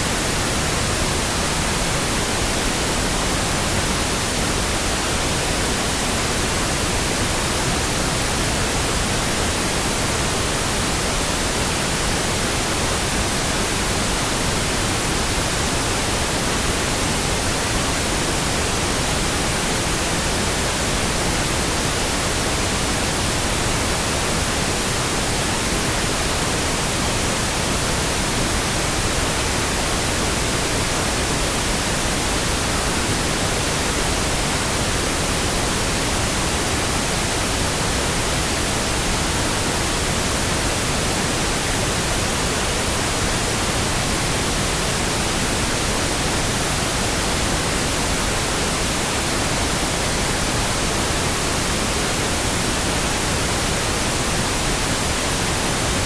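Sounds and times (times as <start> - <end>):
pink noise hiss: 0.0 - 56.0.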